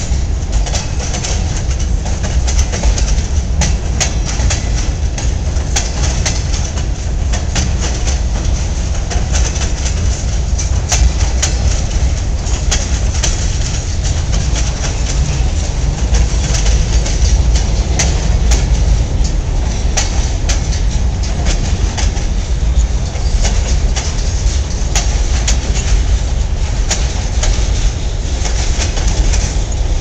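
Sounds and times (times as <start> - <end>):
train cars rumbling past: 0.0 - 30.0
wheels clacking over rail joints: 0.0 - 30.0.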